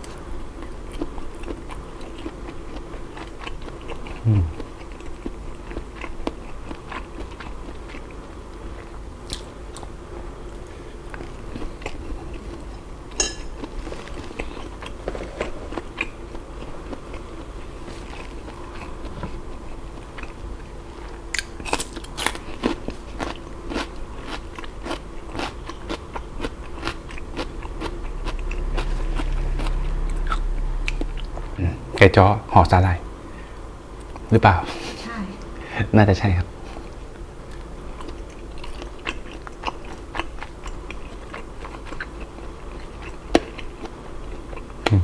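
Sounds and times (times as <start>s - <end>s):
crunchy chewing clicks: 0.0s - 32.8s, 34.0s - 34.3s, 36.9s - 45.0s.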